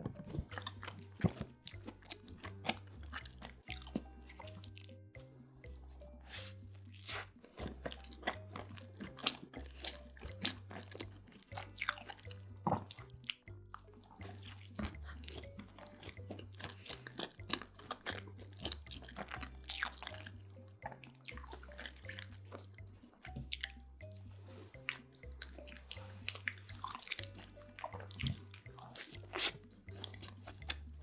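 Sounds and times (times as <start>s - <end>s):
chewing mouth clicks and smacks: 0.1s - 5.0s, 6.9s - 31.0s.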